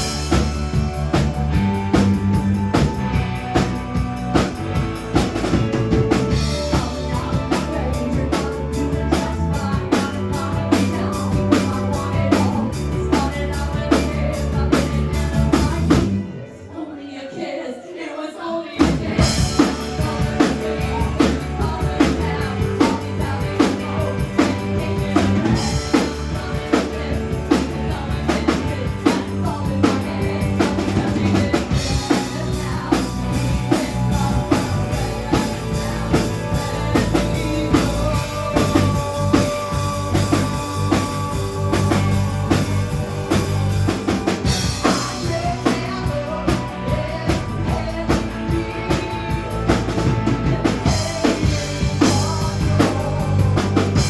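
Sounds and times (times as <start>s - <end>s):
drum kit beat: 0.0s - 16.2s, 18.8s - 54.0s
rock band playing: 0.0s - 16.7s, 18.8s - 54.0s.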